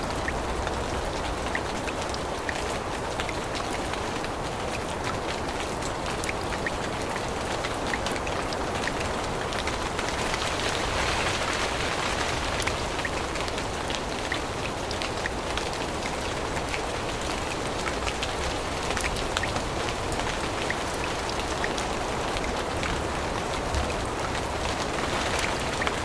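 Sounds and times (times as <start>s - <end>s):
rain falling in a forest: 0.0s - 26.0s.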